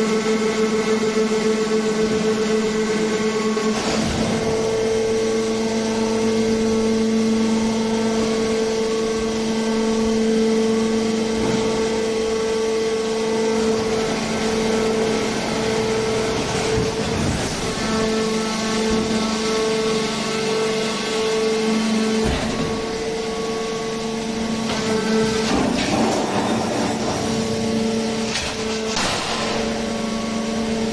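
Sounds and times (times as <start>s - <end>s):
hydraulic power unit humming: 0.0s - 30.9s.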